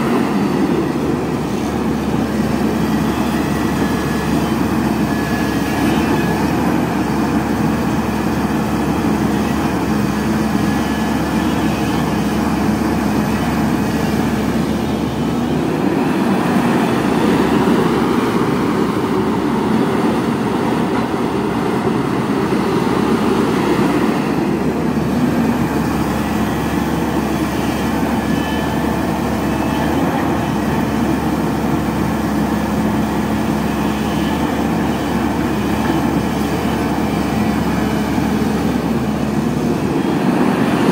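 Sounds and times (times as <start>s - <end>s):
excavator engine and hydraulics: 0.0s - 40.9s.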